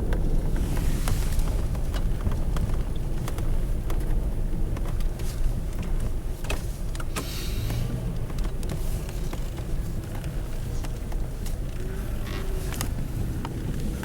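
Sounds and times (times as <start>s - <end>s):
trucks running low rumble: 0.0s - 14.0s.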